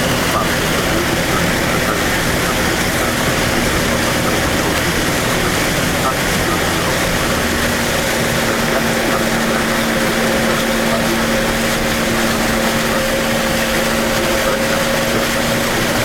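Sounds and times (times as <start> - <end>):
vehicle engine running: 0.0 - 16.0
water rushing hiss: 0.0 - 16.0.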